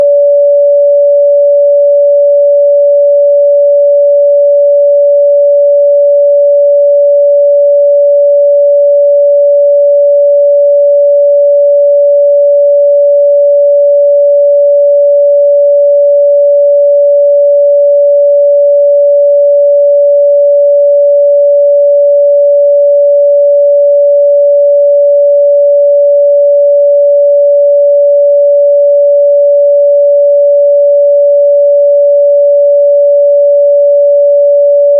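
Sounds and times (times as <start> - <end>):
sine wave test tone: 0.0 - 34.9.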